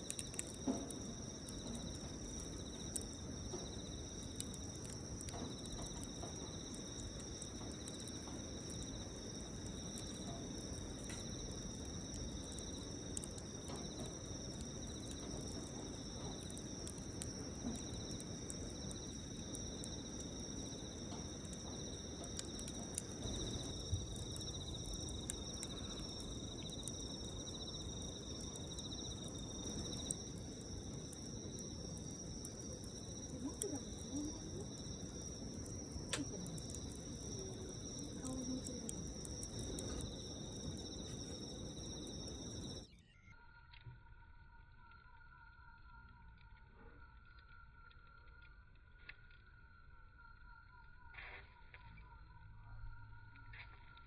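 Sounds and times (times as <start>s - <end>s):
campfire crackling and popping: 0.0s - 43.0s, 44.8s - 50.3s
insects trilling: 0.0s - 54.0s.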